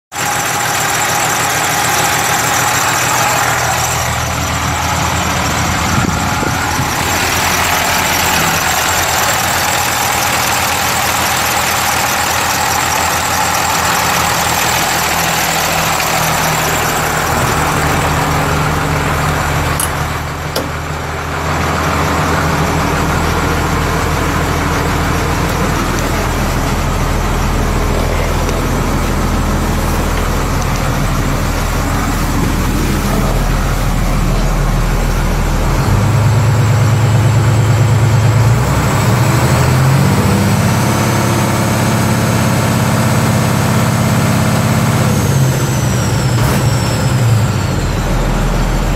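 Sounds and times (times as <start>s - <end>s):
deeper engine rumble: 0.1s - 48.9s
diesel truck engine idling: 0.1s - 48.9s.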